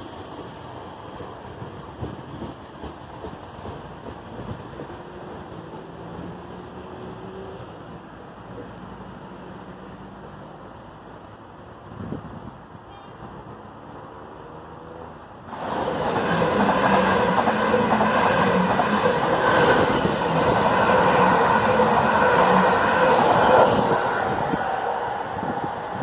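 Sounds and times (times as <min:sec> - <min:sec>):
electric train passing at speed: 0:00.0 - 0:26.0.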